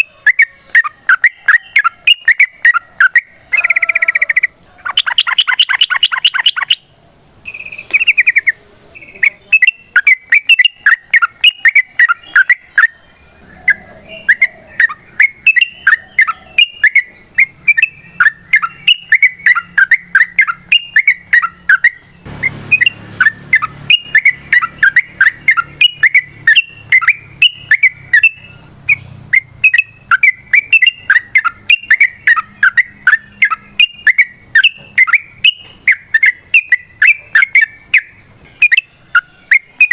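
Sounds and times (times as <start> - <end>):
bird chattering song: 0.0 - 39.9
faint high whine: 0.0 - 39.9.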